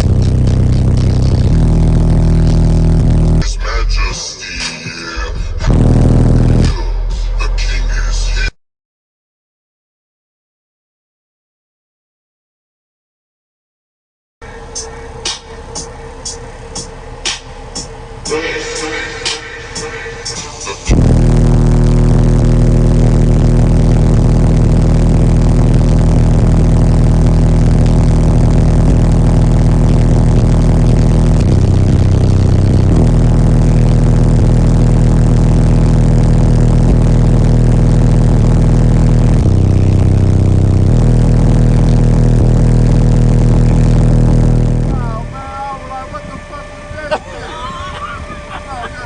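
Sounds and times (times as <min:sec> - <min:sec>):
loud deep bass note from subwoofers: 0:00.0 - 0:08.6, 0:14.4 - 0:49.0.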